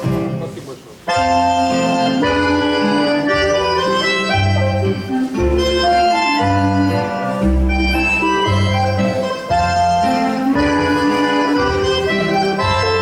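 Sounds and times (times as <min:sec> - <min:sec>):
organ-like keyboard dance music: 0:00.0 - 0:13.0.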